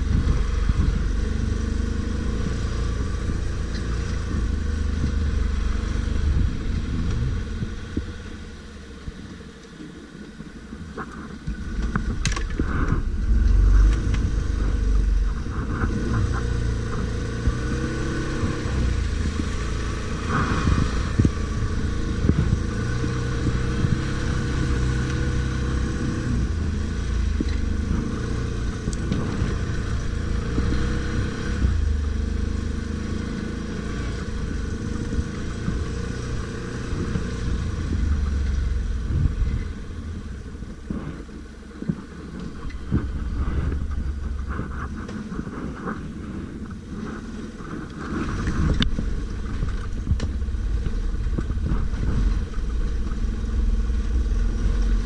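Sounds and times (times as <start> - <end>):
atv engine revving: 0.0 - 9.2, 11.6 - 55.0.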